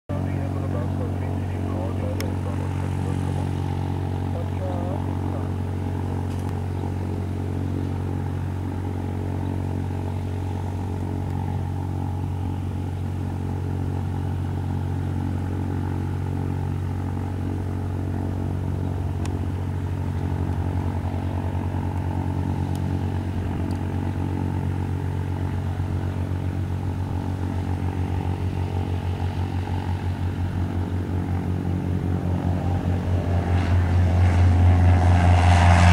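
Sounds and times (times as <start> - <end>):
propeller plane engine running: 0.1 - 35.9.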